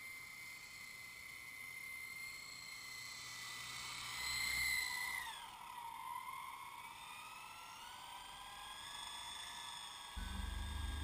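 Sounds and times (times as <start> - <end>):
model helicopter motor whining: 0.0 - 11.0.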